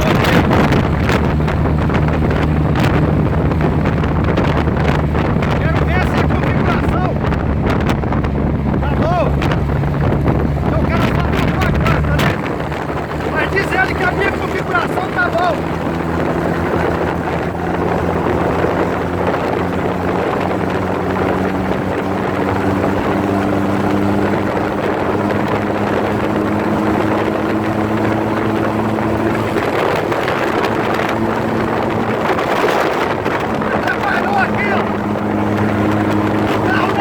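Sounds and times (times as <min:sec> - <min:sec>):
engine running: 0:00.0 - 0:37.0
wind noise on microphone: 0:00.0 - 0:37.0.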